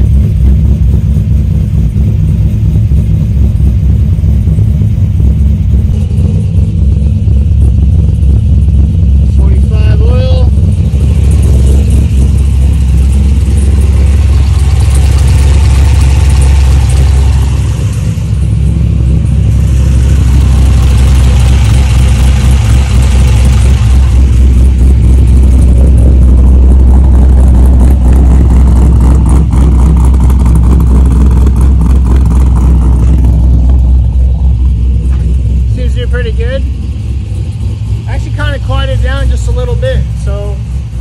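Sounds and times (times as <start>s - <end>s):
car engine idling with low rumble: 0.0s - 41.0s.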